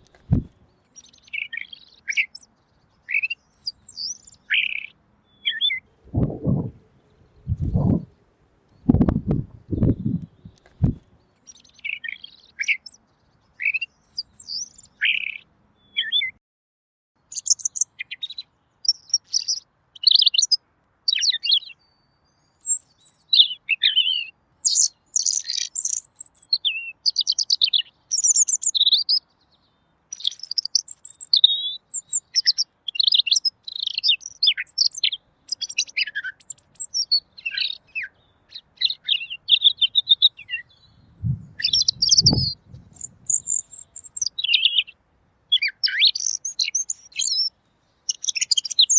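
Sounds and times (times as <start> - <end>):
bird singing warbled phrases: 0.0 - 16.4, 17.2 - 48.9.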